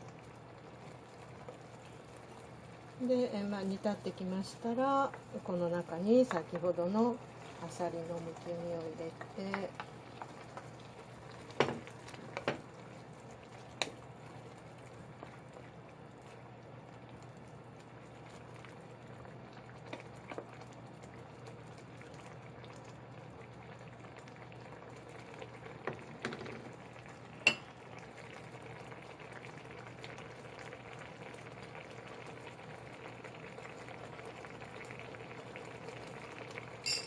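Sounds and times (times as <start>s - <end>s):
broth bubbling in a saucepan: 0.0s - 37.0s.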